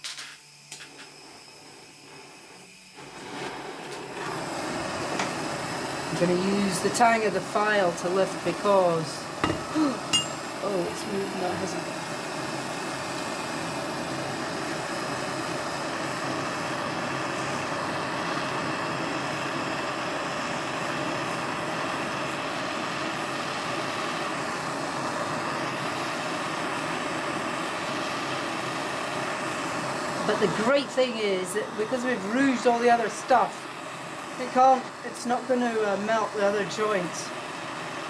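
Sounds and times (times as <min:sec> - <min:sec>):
torch flame rushing: 0:00.4 - 0:38.0.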